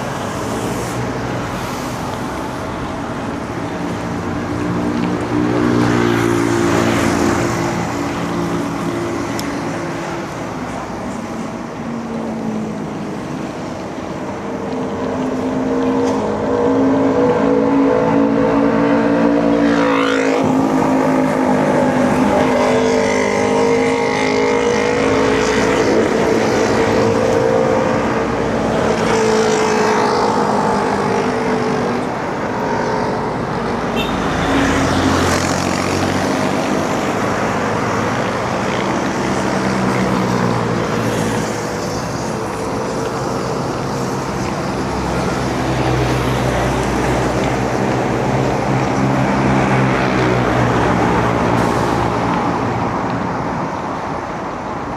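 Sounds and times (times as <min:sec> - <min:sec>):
motor vehicle engines: 0:00.0 - 0:54.9.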